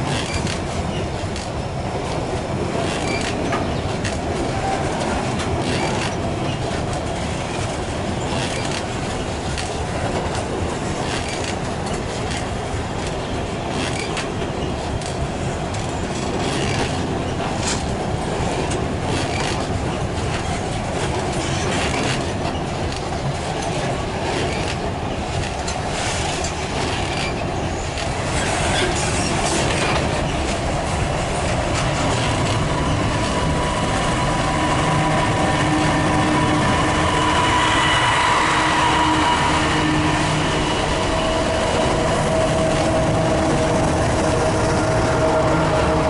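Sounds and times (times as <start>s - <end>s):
freight train rumble: 0.0s - 46.0s
train wheels clicking over rails: 0.0s - 46.0s
train wheel squeal: 0.1s - 1.8s, 2.8s - 9.8s, 10.9s - 15.2s, 16.2s - 30.6s, 31.7s - 46.0s.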